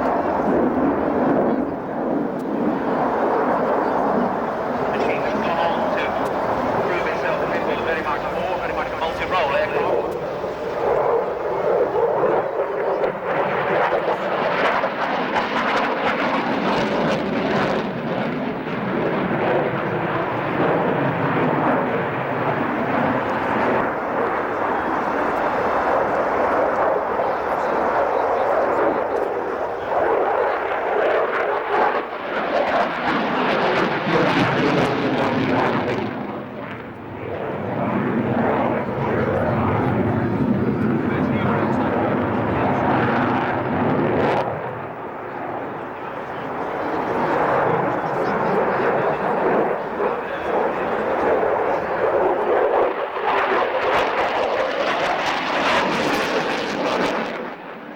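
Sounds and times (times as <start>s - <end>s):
jet engine rushing: 0.0s - 57.9s.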